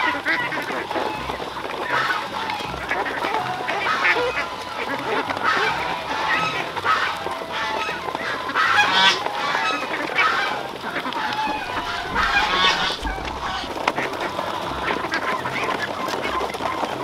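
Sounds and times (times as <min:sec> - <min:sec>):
flock of ducks calling: 0:00.0 - 0:17.0.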